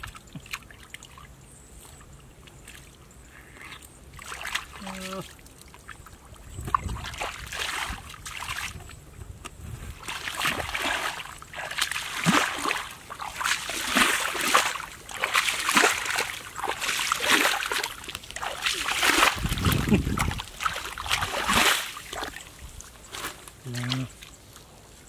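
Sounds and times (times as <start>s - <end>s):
feet splashing through muddy water: 0.0s - 25.0s.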